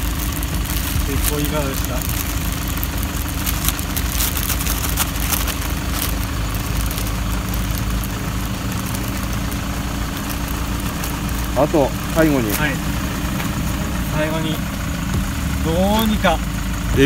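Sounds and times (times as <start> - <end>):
plastic bag crinkling: 0.0 - 14.3
vehicle engine idling: 0.0 - 17.0.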